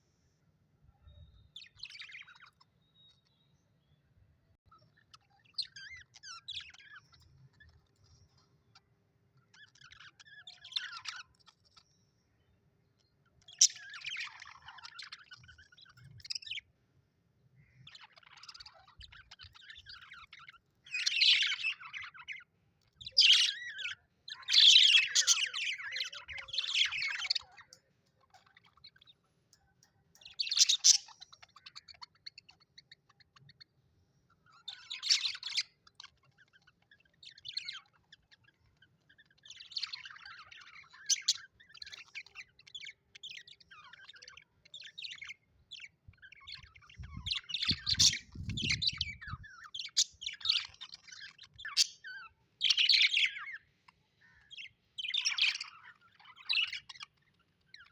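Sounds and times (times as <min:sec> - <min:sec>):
budgerigars chattering and chirping: 0:01.5 - 0:03.3, 0:04.7 - 0:12.0, 0:13.0 - 0:16.8, 0:17.6 - 0:57.9.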